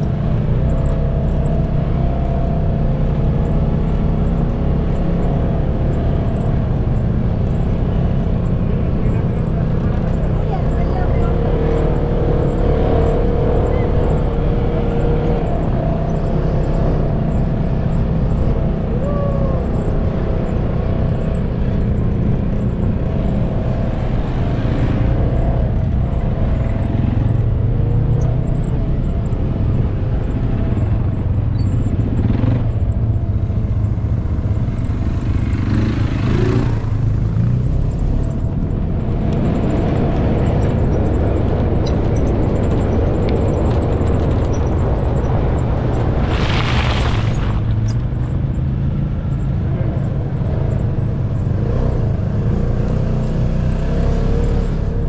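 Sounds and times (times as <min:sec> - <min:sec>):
buggy engine drone and rumble: 0:00.0 - 0:55.0.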